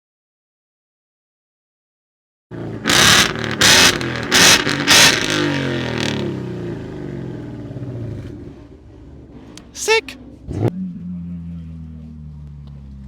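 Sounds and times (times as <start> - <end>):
sports car engine revving: 2.5 - 13.0.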